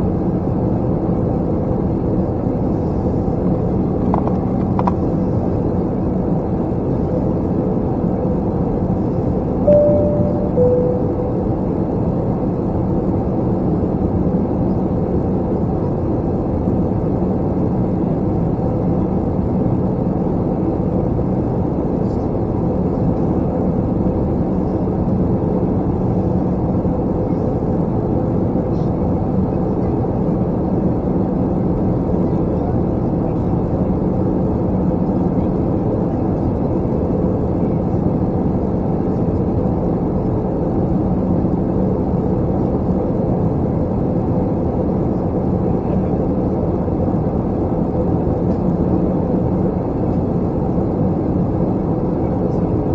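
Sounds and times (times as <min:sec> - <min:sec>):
airplane cabin drone: 0:00.0 - 0:52.9.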